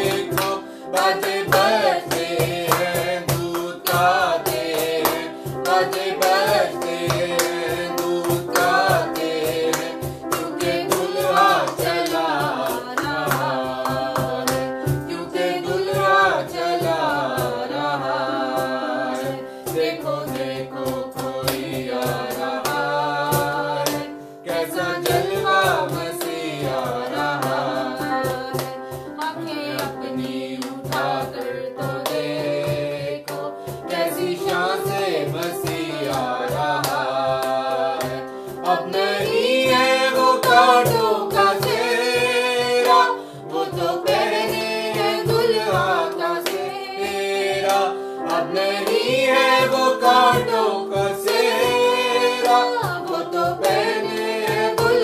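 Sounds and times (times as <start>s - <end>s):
electronic keyboard with steady beat: 0.0s - 55.0s
voices singing worship song: 0.0s - 55.0s.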